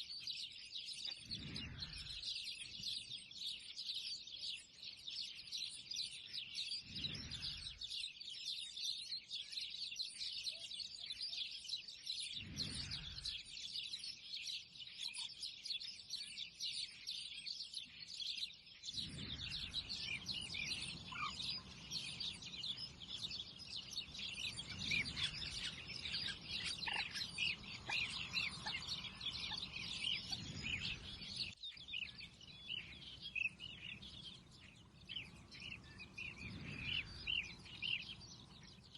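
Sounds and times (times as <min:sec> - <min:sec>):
small birds chirping chorus: 0:00.0 - 0:38.9.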